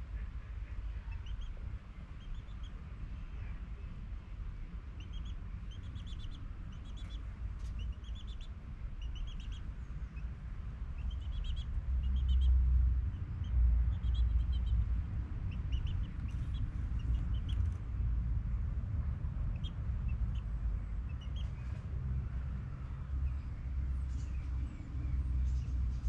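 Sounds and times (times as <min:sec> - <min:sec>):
small birds chirping: 0:00.0 - 0:26.0
steady low rumble: 0:00.0 - 0:26.0.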